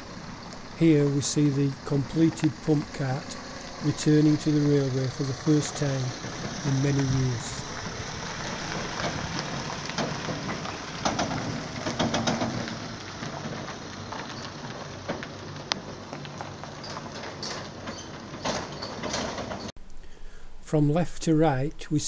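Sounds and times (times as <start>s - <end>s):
trailer clicks and knocks: 0.0s - 19.7s
van engine and tyre noise: 0.0s - 19.8s.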